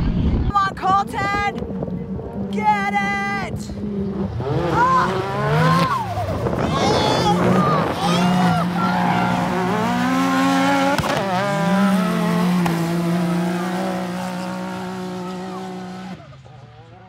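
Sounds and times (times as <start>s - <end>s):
engines racing at full throttle: 0.0s - 17.0s.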